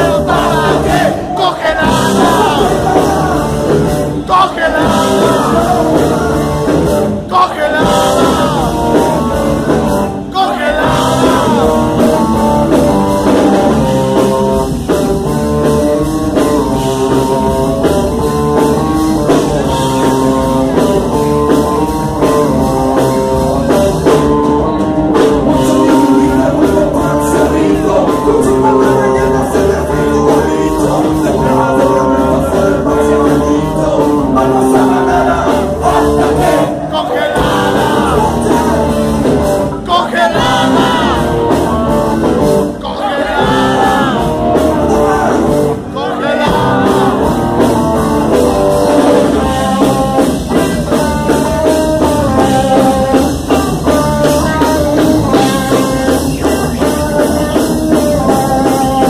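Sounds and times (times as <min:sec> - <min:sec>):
person singing: 0:00.0 - 0:14.4, 0:16.4 - 0:59.0
rock band playing: 0:00.0 - 0:59.0.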